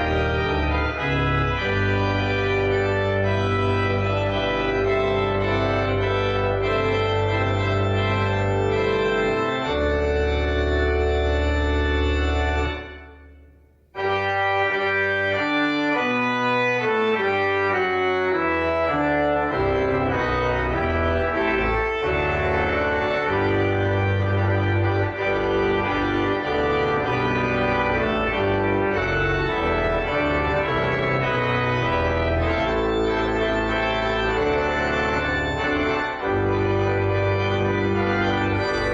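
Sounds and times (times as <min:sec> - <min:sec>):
church organ chords: 0:00.0 - 0:38.9.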